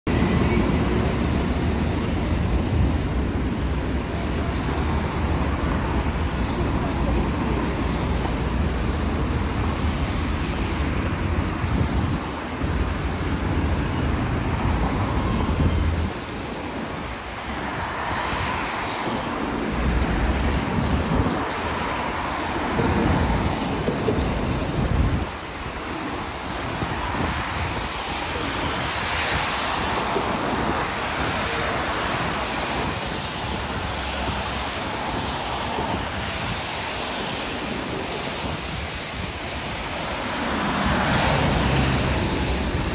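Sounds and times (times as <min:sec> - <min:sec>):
tyres hissing on wet road: 0:00.1 - 0:42.9
wind buffeting microphone: 0:00.1 - 0:42.9.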